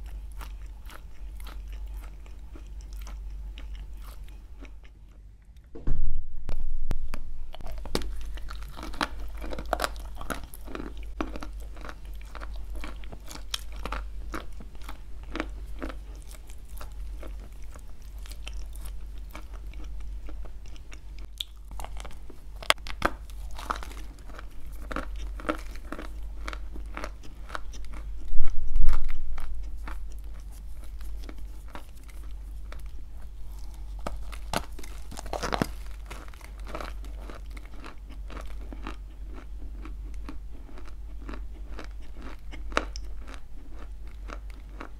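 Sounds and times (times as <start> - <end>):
chewing gritty clay crunches: 0.0 - 5.2, 7.5 - 28.3, 28.9 - 44.9.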